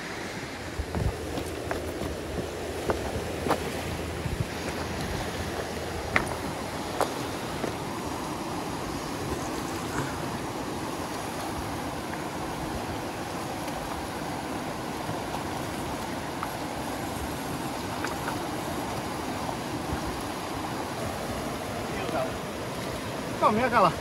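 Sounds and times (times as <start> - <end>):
river rapids rushing: 0.0 - 24.0.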